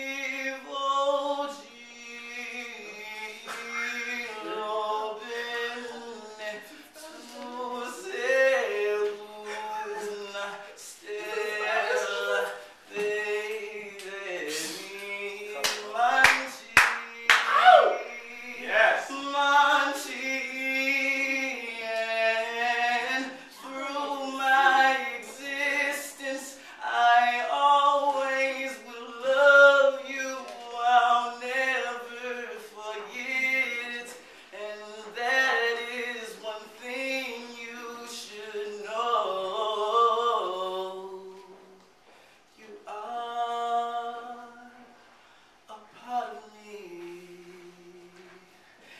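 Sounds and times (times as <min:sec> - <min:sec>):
person singing unaccompanied: 0:00.0 - 0:41.8.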